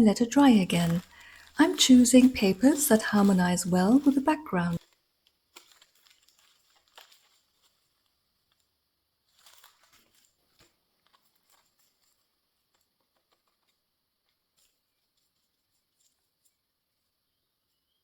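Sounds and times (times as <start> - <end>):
tissue paper rustling: 0.0 - 17.1.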